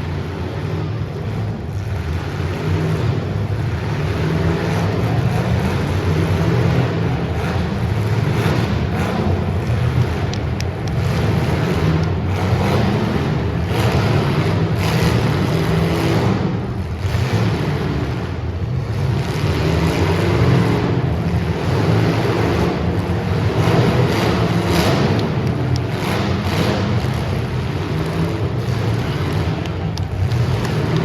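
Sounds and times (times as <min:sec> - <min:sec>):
race car engines running hard: 0:00.0 - 0:31.0.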